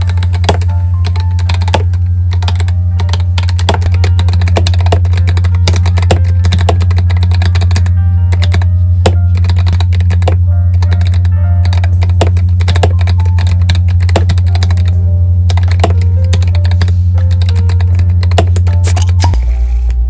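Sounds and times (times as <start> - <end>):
mechanical keyboard typing: 0.0 - 19.3
background music with low bass: 0.0 - 20.0.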